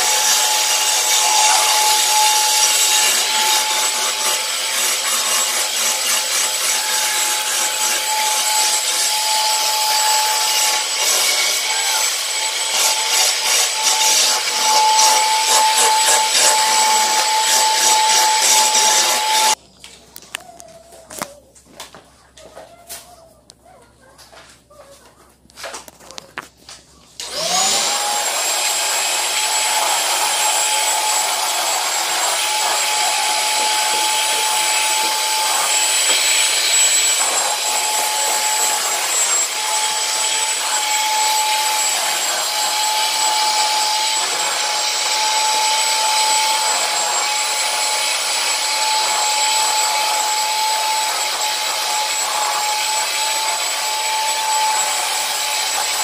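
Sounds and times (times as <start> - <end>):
vacuum cleaner whining: 0.0 - 19.6, 27.1 - 56.0.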